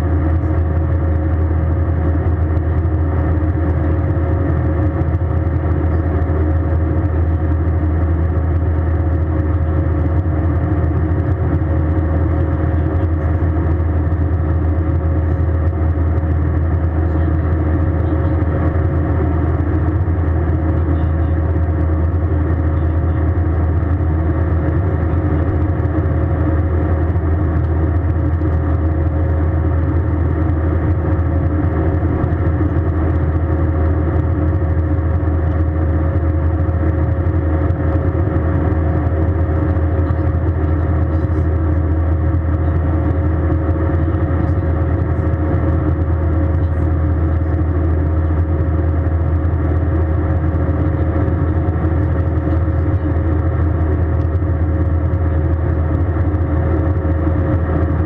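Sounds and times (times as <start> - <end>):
faint constant tone: 0.0 - 58.0
jet cabin engine drone: 0.0 - 58.0.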